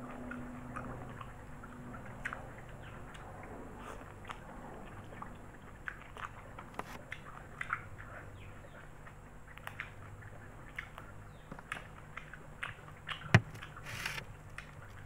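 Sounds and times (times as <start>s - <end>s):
low steady hum: 0.0s - 15.0s
wet chewing: 0.1s - 15.0s.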